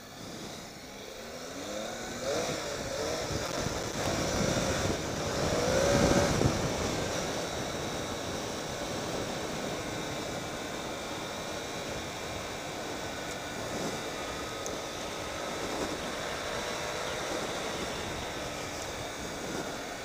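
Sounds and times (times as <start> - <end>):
motorcycle engine accelerating: 0.0 - 20.0
wind rush: 0.1 - 20.0.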